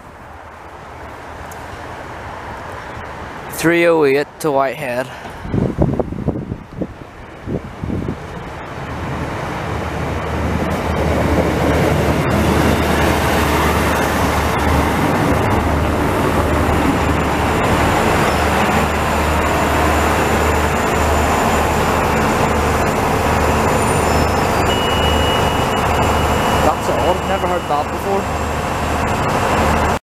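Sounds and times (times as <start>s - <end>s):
diesel engine drone: 0.0s - 30.0s
train rumble: 4.8s - 30.0s.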